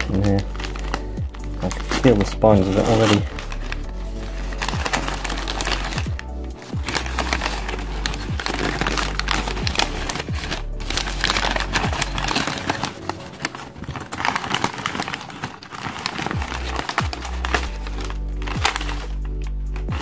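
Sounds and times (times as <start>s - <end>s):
newspaper crumpling: 0.0s - 20.0s
soft background music: 0.0s - 20.0s.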